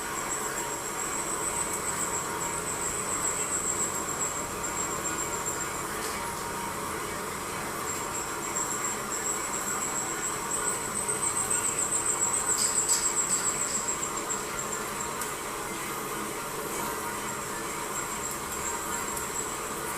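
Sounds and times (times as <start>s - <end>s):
machine hum: 0.0s - 19.9s.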